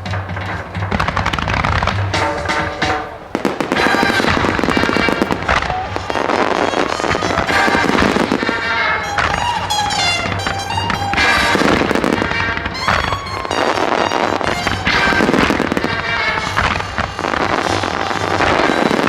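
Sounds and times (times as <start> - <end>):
fireworks bursting and crackling: 0.0 - 19.0
music: 0.0 - 19.0.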